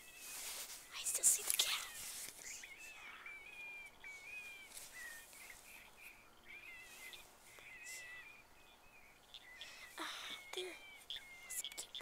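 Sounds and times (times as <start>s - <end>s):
high whistled chirps: 0.0s - 12.0s.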